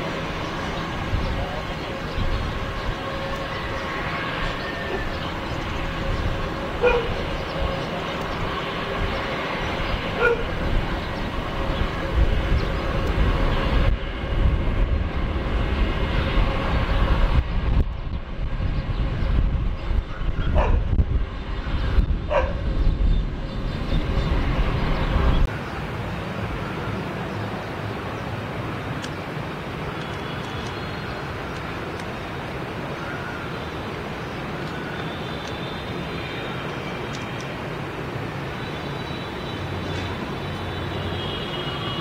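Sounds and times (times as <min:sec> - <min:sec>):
turboprop airliner taking off: 0:00.0 - 0:42.0.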